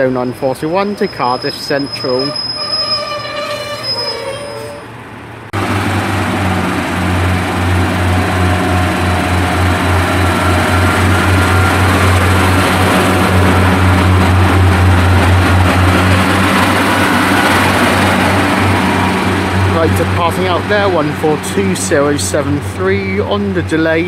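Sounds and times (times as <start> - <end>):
train diesel engines running: 0.0 - 24.0.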